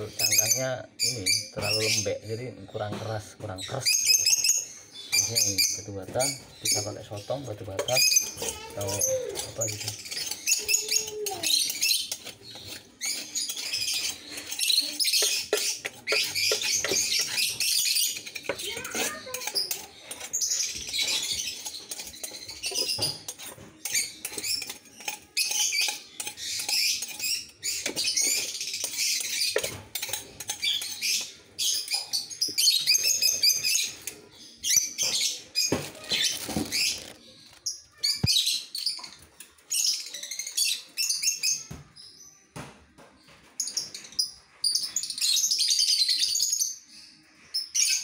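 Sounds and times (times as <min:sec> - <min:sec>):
lovebirds chirping: 0:00.0 - 0:42.6.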